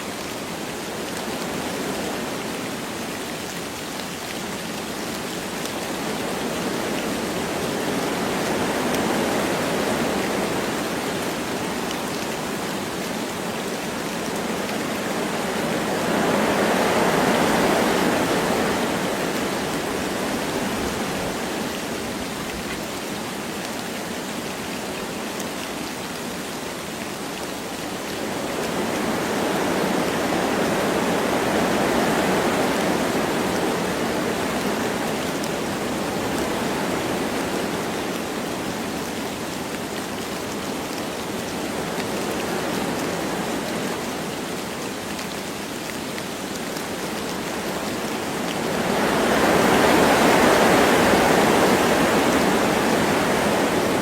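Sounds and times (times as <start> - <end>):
light rain: 0.0 - 54.0
wind through trees: 0.0 - 54.0.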